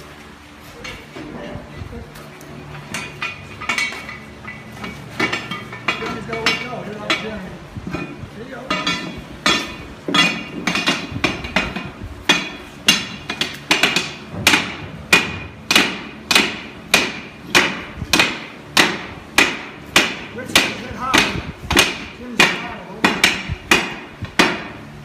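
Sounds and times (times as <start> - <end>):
hammers striking steel: 2.7 - 25.0.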